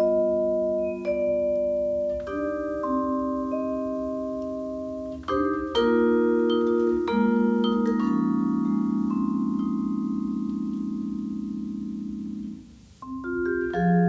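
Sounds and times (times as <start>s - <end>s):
vibraphone chords: 0.0s - 14.0s.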